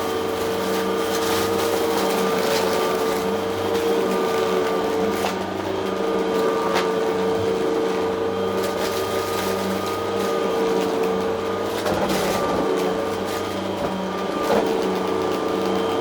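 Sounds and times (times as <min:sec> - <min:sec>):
vacuum cleaner motor whining: 0:00.0 - 0:16.0
debris crackling in vacuum: 0:00.1 - 0:16.0.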